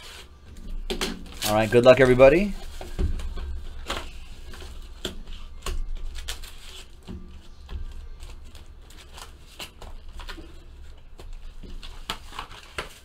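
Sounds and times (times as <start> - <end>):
foil packs crinkling: 0.0 - 13.0.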